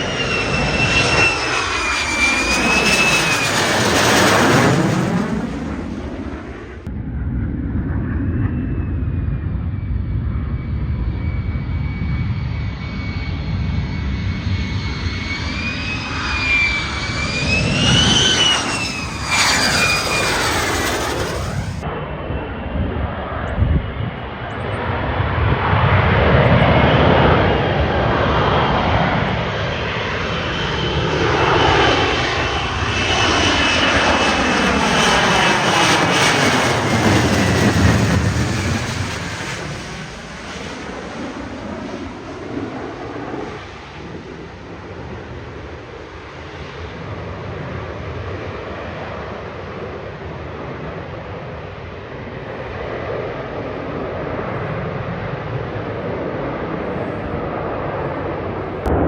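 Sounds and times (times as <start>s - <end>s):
fighter jet engine flyby: 0.0s - 59.0s.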